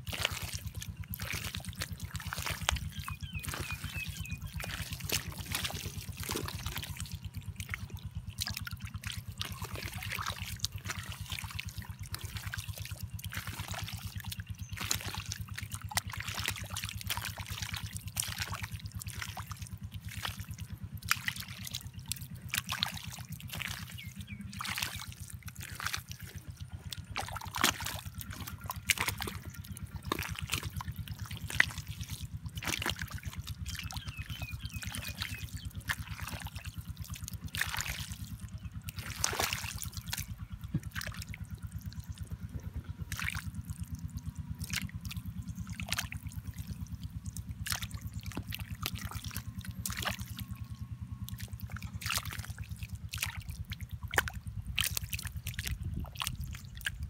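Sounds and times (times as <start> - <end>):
muddy water trickling and dripping: 0.0 - 57.0
small splashes and ticks: 0.0 - 57.0
steady low hum: 0.0 - 57.0.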